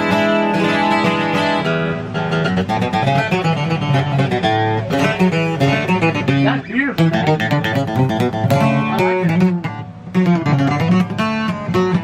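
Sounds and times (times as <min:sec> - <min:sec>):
twelve-string acoustic guitar: 0:00.0 - 0:12.0.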